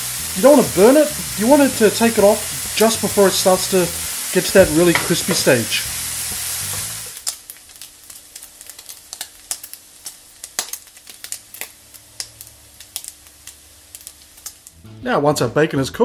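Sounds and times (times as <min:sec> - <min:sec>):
bacon sizzling and popping in pan: 0:00.0 - 0:14.9.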